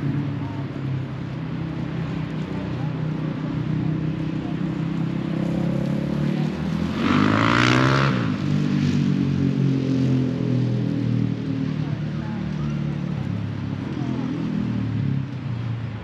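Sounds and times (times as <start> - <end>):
road traffic: 0.0 - 16.0
vehicle passing close by: 1.8 - 15.4.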